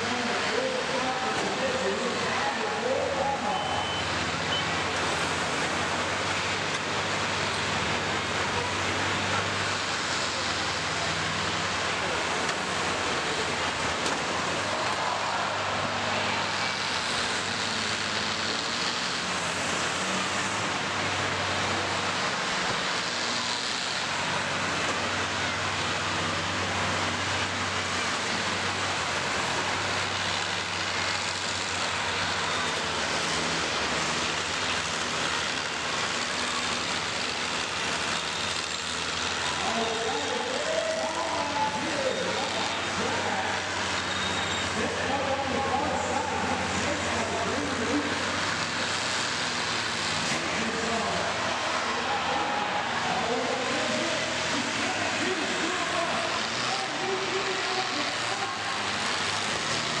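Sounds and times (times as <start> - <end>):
combine harvester engines running: 0.0 - 60.0.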